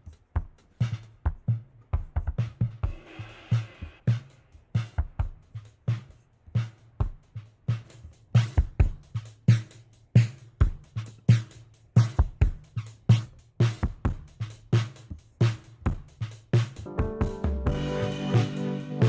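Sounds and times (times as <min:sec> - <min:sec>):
drum beat: 0:00.0 - 0:19.0.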